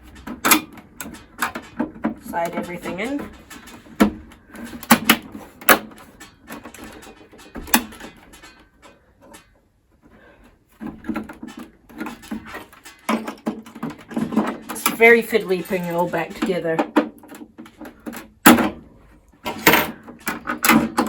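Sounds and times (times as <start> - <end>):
plastic and metal parts clicking: 0.0 - 9.6, 10.8 - 18.8, 19.4 - 21.0.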